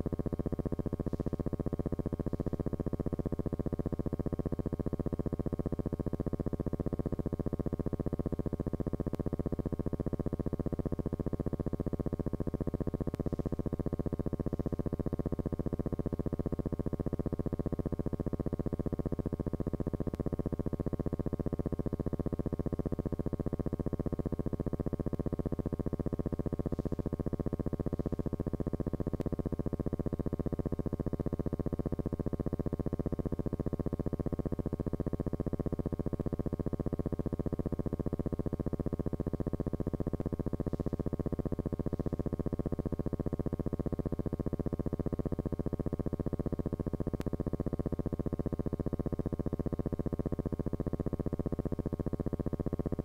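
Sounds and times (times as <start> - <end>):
electrical hum and buzz: 0.0 - 53.0.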